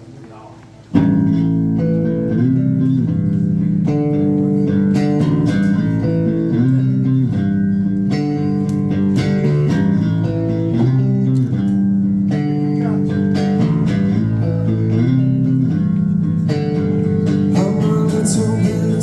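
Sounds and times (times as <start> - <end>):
band playing guitar riff: 0.9 - 19.0.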